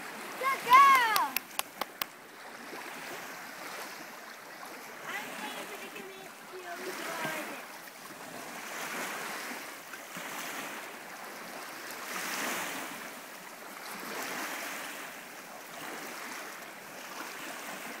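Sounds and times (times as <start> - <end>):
lake waves lapping on rocks: 0.0 - 18.0.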